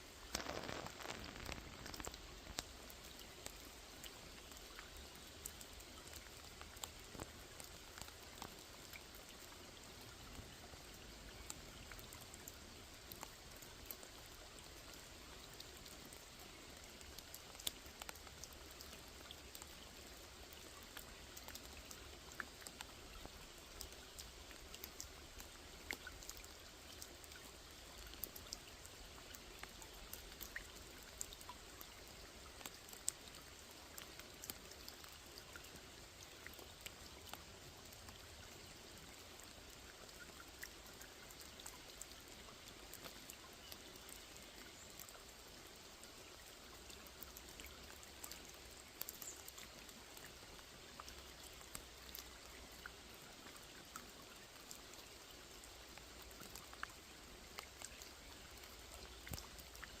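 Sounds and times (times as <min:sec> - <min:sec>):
rain pattering on water: 0:00.0 - 1:00.0.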